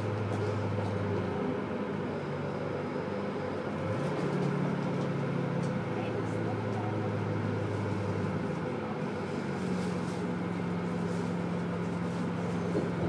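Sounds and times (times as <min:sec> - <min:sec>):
diesel train engine hum: 0:00.0 - 0:13.0.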